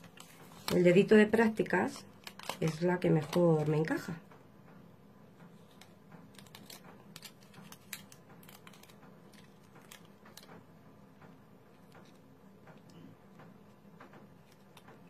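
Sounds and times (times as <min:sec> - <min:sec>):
paper rustling and light ticks: 0:00.0 - 0:04.2, 0:05.3 - 0:15.0
low steady hum: 0:00.0 - 0:15.0.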